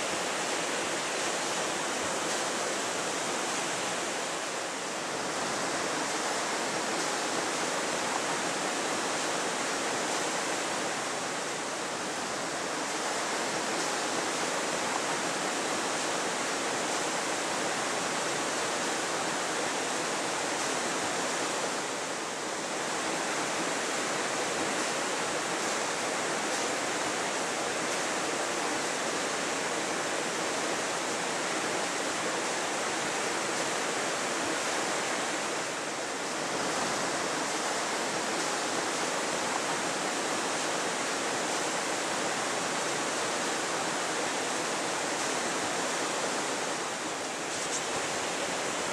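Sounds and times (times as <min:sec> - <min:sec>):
water rushing through lock gates: 0:00.0 - 0:48.9.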